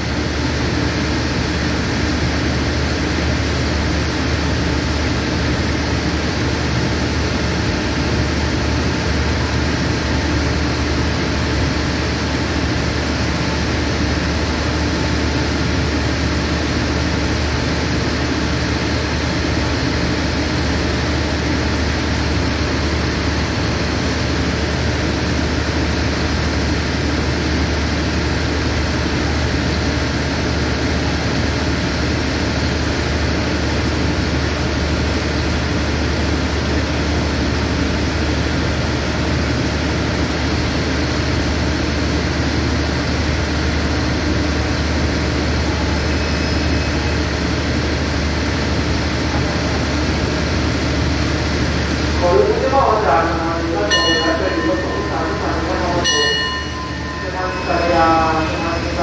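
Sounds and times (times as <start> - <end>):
diesel train engine idling: 0.0 - 59.0.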